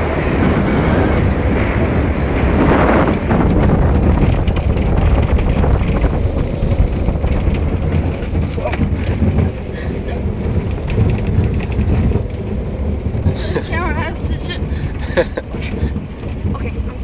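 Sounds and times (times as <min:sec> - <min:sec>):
pickup truck rumbling on dirt track: 0:00.0 - 0:17.0
wind buffeting microphone: 0:00.0 - 0:17.0.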